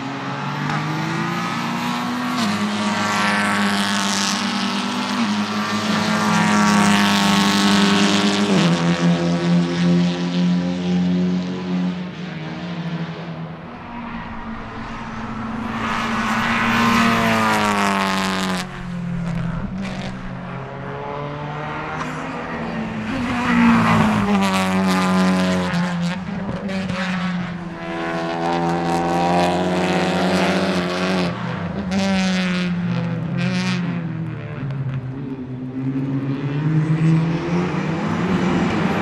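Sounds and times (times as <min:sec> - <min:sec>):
race car engines accelerating: 0:00.0 - 0:39.0.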